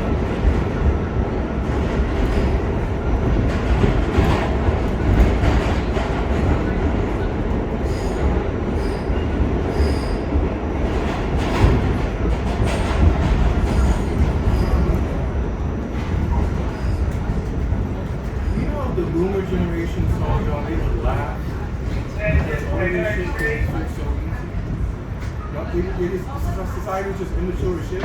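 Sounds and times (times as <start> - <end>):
track clickety-clack: 0.0 - 28.0
wheels rumbling on rail: 0.0 - 28.0.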